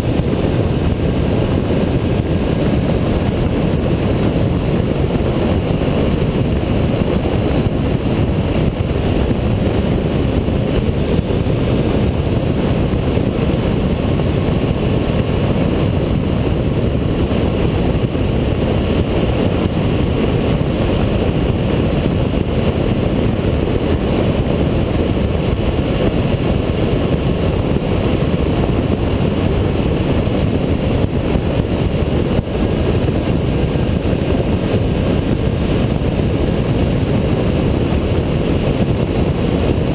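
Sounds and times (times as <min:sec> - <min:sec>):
motorcycle cruising: 0:00.0 - 0:39.9
wind rush: 0:00.0 - 0:39.9.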